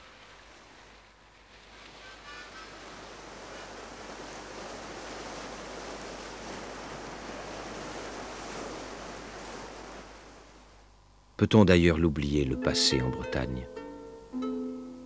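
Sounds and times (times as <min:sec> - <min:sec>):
sea waves: 0:00.0 - 0:11.0, 0:12.2 - 0:15.0.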